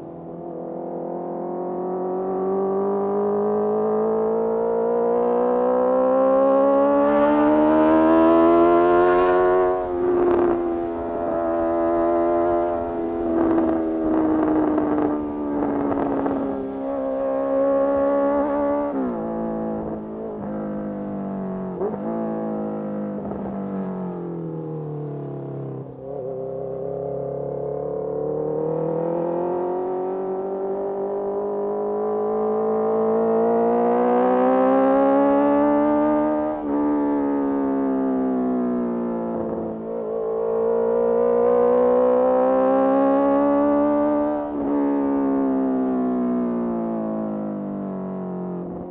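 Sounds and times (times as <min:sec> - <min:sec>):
motorcycle engine revving: 0:00.8 - 0:23.5, 0:25.5 - 0:47.6.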